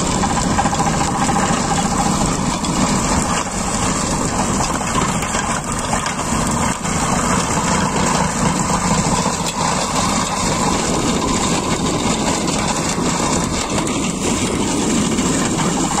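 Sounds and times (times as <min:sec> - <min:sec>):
stone crusher rattling: 0:00.0 - 0:16.0
tractor engine under load: 0:00.0 - 0:16.0.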